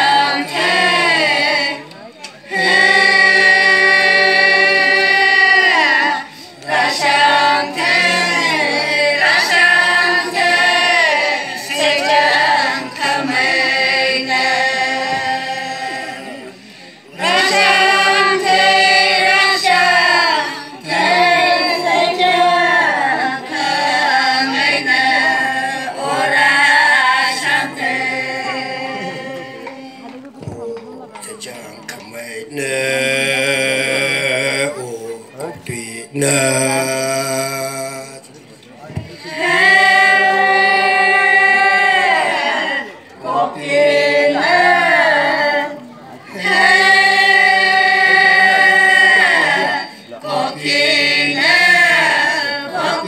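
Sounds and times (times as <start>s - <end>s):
women singing together: 0.0s - 31.2s, 38.8s - 53.0s.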